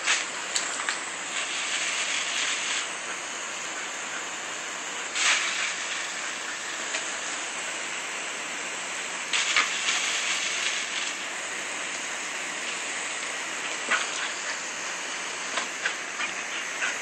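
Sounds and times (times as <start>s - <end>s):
water spattering: 0.0s - 4.0s, 5.1s - 7.8s, 9.1s - 17.0s
garden hose spraying water: 0.0s - 17.0s.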